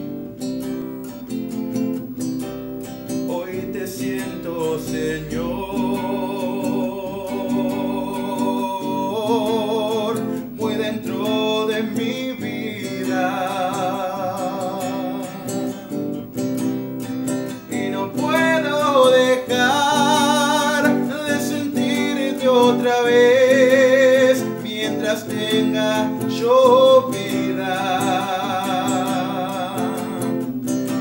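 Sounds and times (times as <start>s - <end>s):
classical guitar: 0.0s - 31.0s
man singing with vibrato: 2.8s - 31.0s.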